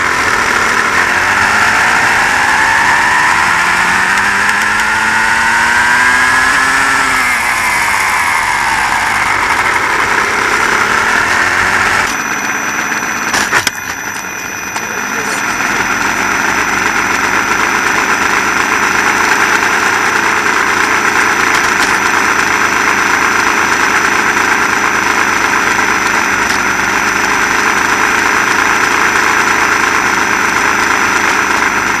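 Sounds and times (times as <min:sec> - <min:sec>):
electric motor whirring: 0:00.0 - 0:32.0.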